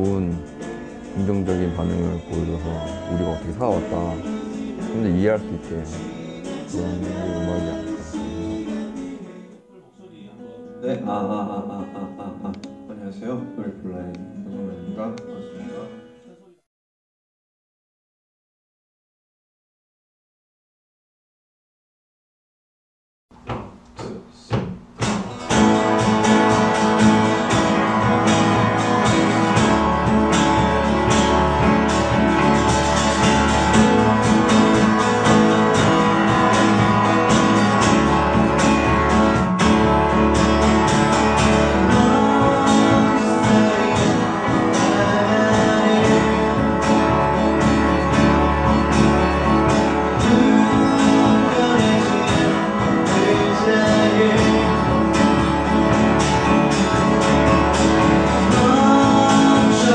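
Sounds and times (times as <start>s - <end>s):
acoustic guitar and piano song: 0.0s - 16.5s, 23.4s - 59.9s.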